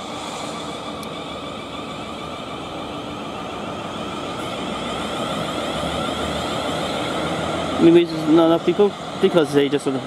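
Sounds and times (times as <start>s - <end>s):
electric train motor whine: 0.0s - 10.0s
train wheels on rails: 0.0s - 10.0s.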